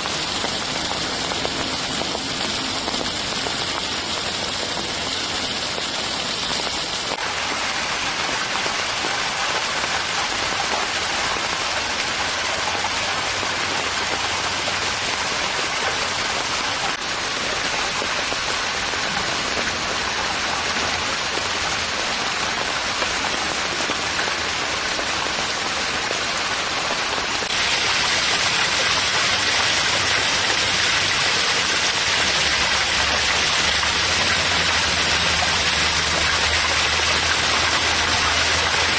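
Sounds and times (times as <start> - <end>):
water splashing over rocks: 0.0 - 38.9.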